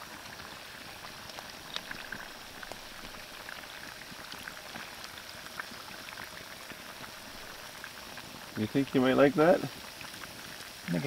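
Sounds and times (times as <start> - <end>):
oil sizzling and bubbling: 0.0 - 11.0.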